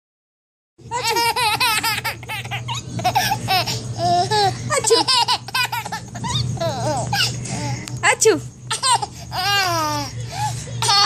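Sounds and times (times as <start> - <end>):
baby laughing: 0.9 - 7.8, 8.7 - 11.0.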